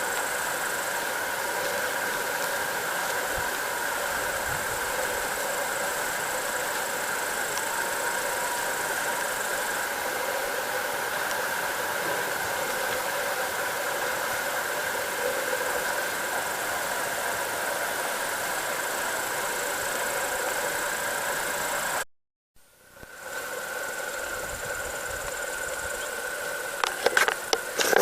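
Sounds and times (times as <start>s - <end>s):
field insects buzzing: 0.0s - 22.0s, 22.7s - 28.0s
steady hiss: 0.0s - 22.0s, 22.6s - 28.0s.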